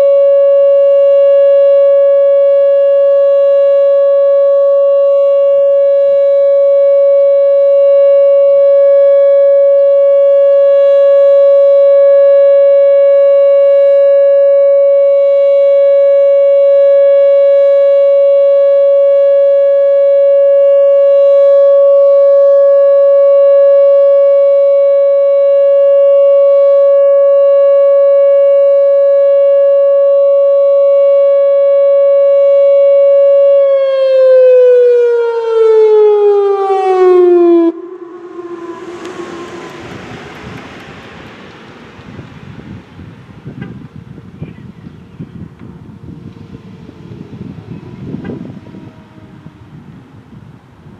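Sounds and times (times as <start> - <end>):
warning siren steady tone: 0.0 - 50.9.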